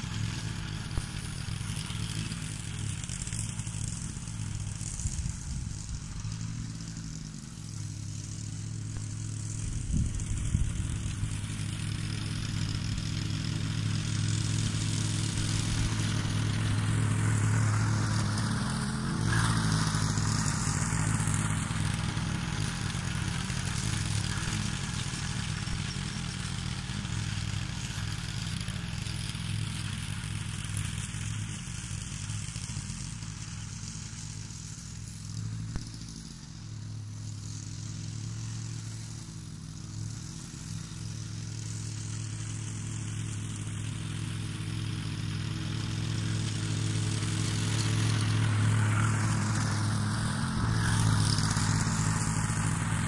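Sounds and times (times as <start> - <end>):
lawn mower engine mowing grass: 0.0 - 53.0.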